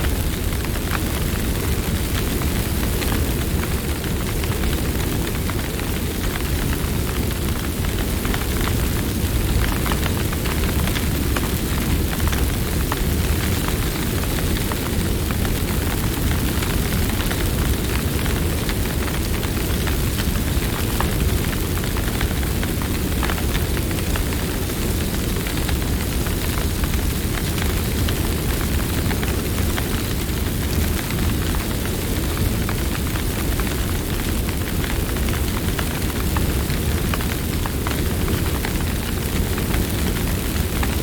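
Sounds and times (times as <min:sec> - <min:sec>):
flames rushing: 0:00.0 - 0:41.0
wood crackling and popping: 0:00.0 - 0:41.0.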